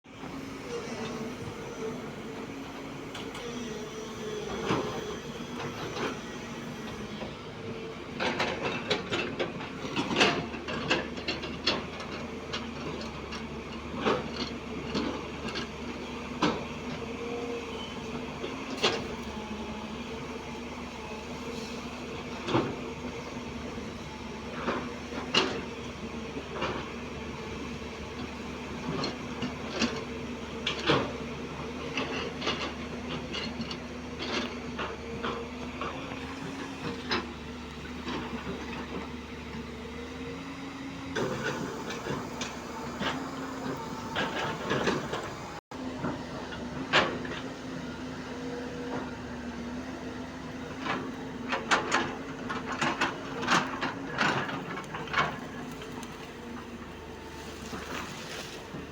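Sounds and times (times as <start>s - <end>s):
excavator diesel engine running: 0.1s - 58.9s.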